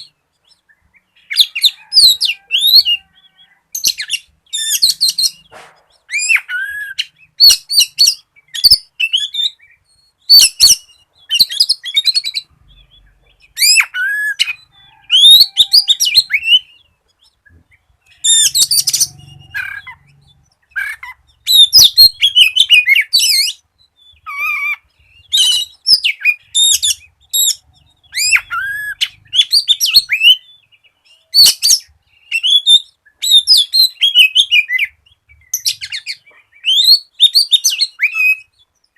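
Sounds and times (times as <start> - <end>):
bird whistling and trilling: 0.0 - 38.7.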